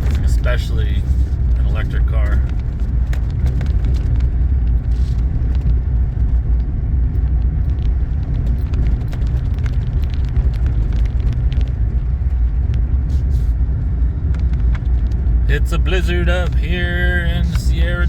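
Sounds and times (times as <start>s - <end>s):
vehicle driving through snow: 0.0s - 18.0s.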